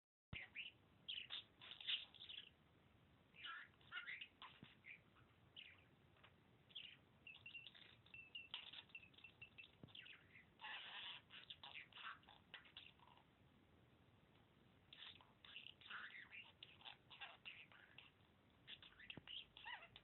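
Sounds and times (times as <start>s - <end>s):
budgerigar chirping and warbling: 0.4s - 2.6s, 3.4s - 13.3s, 14.9s - 20.0s.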